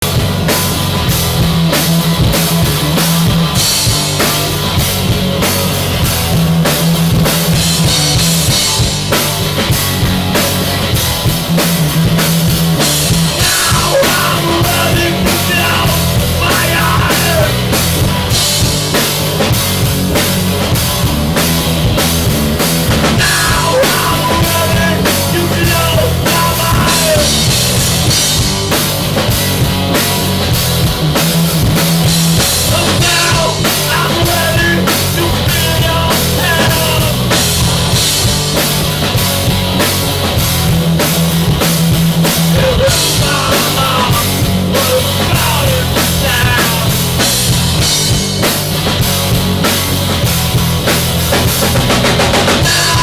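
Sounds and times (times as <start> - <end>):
rock drum beat: 0.0 - 53.0.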